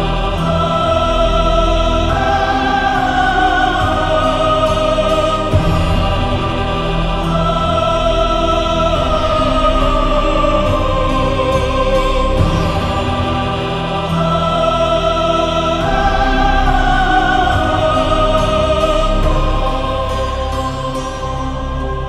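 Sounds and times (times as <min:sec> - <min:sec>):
choir singing long notes: 0:00.0 - 0:22.0
low bass: 0:00.0 - 0:22.0
orchestral music: 0:00.0 - 0:22.0.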